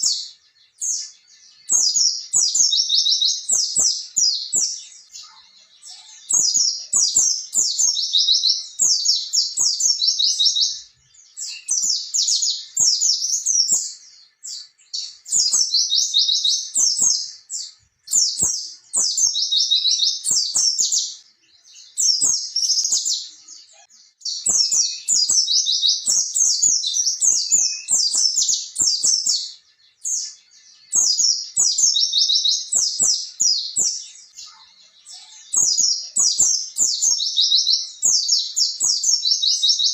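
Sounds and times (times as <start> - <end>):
bird singing twittering song: 0.0 - 39.9.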